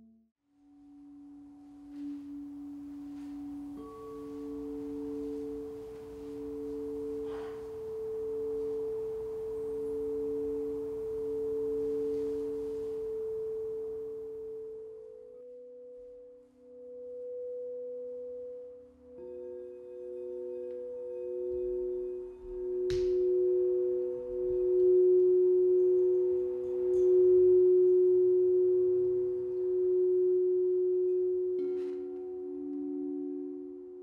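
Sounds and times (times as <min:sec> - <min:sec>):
low singing bowl tone: 0:00.0 - 0:34.0
higher singing bowl tone: 0:00.5 - 0:34.0.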